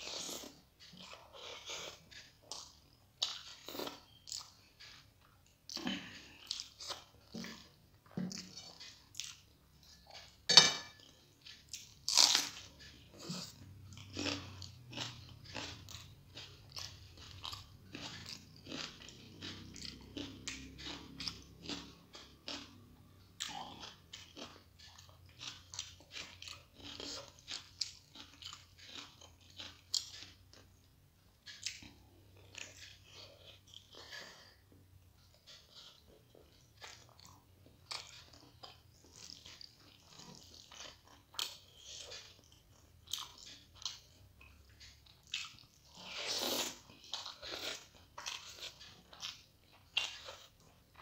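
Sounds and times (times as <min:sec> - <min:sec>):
chewing and mouth sounds: 0:00.0 - 0:10.4, 0:11.0 - 0:30.8, 0:31.4 - 0:51.0.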